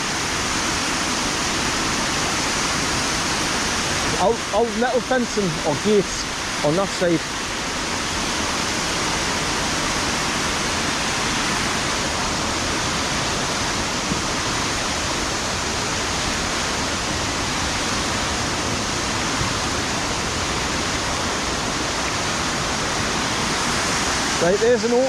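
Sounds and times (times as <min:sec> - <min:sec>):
heavy rain falling: 0:00.0 - 0:25.0
waterfall rushing: 0:00.0 - 0:25.0.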